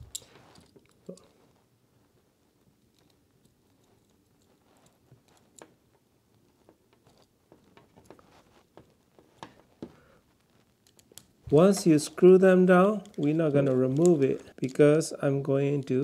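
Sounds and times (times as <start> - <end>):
small clicks and rustles of wires: 0.0 - 16.0.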